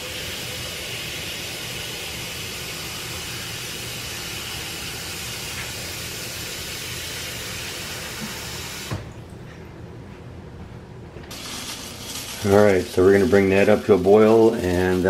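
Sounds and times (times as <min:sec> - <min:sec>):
faucet running water into saucepan: 0:00.0 - 0:09.1, 0:11.3 - 0:15.0.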